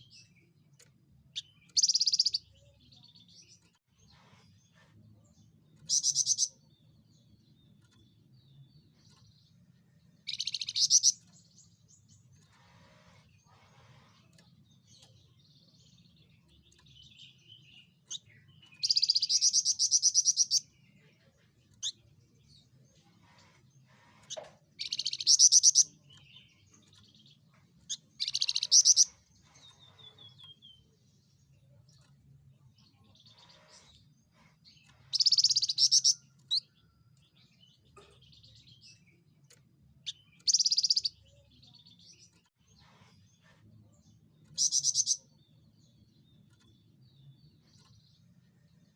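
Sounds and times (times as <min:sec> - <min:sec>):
bird chirps: 0:00.0 - 0:48.9.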